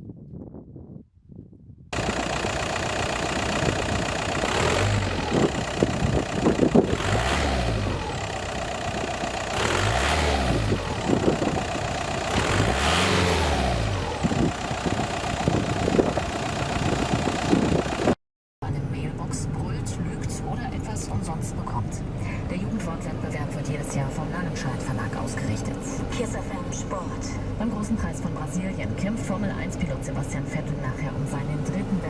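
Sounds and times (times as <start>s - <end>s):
diesel engine revving: 2.0s - 32.0s.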